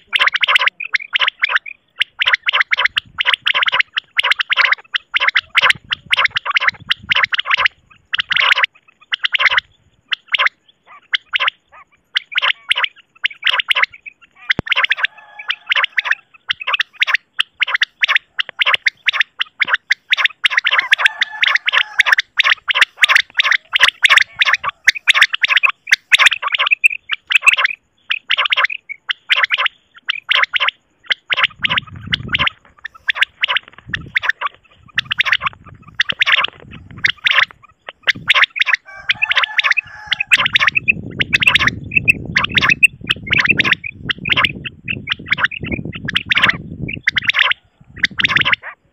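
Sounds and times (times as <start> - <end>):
quail calling: 0.0 - 48.9.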